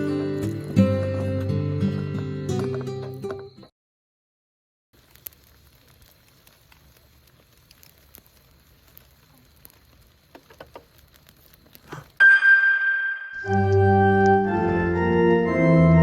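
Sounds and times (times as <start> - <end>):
fire crackling and popping: 0.0 - 3.4, 5.0 - 12.3, 13.1 - 15.4.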